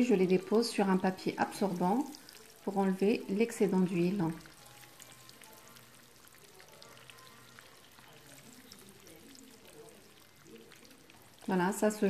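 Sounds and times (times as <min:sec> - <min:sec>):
food sizzling in hot oil: 0:00.0 - 0:12.0
small oil crackles: 0:00.0 - 0:12.0.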